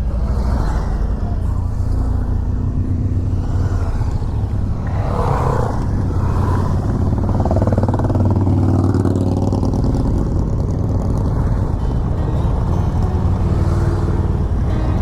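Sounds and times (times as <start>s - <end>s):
motorcycle engine running: 1.0s - 15.0s.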